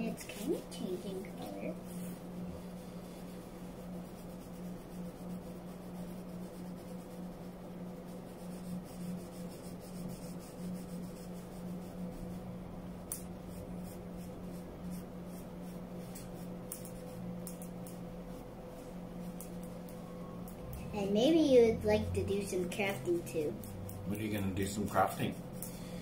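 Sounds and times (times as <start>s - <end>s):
paintbrush scratchy strokes: 0.0s - 25.6s
low hum: 0.0s - 26.0s.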